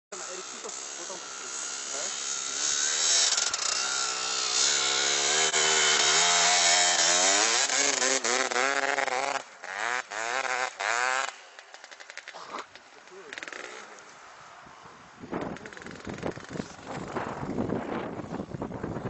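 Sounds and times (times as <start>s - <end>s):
dirt bike engine revving: 0.1s - 14.1s, 15.4s - 18.1s.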